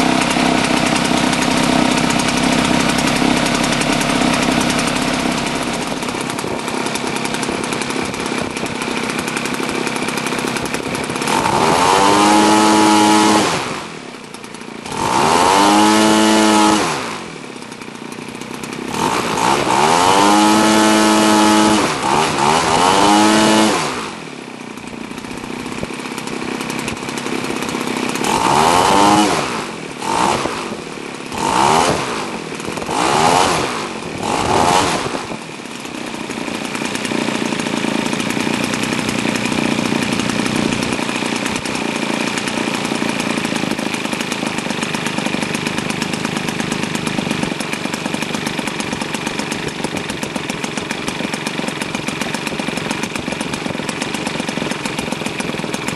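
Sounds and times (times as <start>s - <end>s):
model aircraft engine revving: 0.0s - 55.9s.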